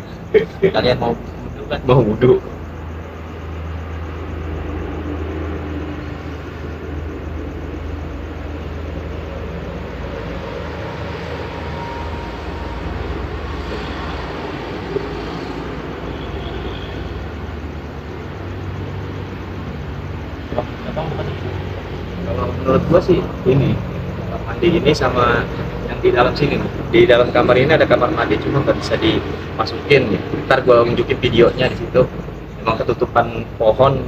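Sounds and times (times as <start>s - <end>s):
rumble of passing traffic: 0.0s - 34.0s
low hum: 1.1s - 33.0s.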